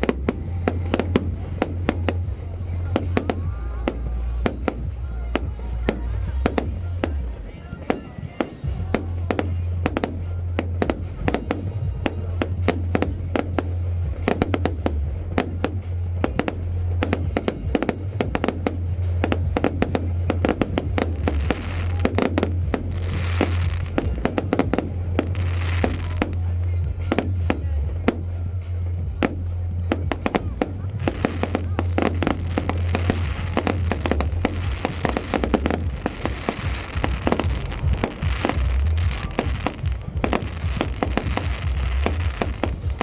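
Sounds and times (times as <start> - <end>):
fireworks bangs and cracks: 0.0 - 43.0
fireworks crackling and hissing: 0.0 - 43.0.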